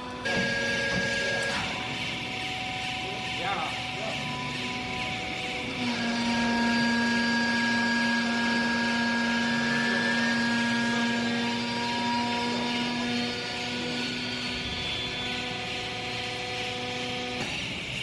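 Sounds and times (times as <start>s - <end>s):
hydraulic power unit whine: 0.0s - 18.0s.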